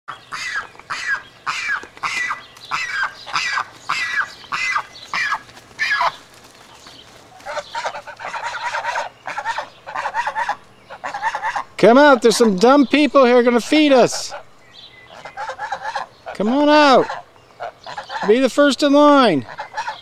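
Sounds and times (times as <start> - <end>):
geese chattering calls: 0.1 - 20.0
geese honking: 0.1 - 20.0.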